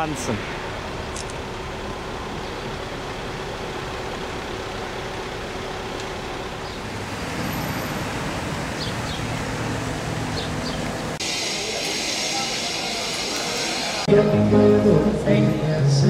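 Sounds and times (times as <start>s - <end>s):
rumble of passing cars: 0.0s - 14.1s
vehicle engine humming low: 0.0s - 15.8s.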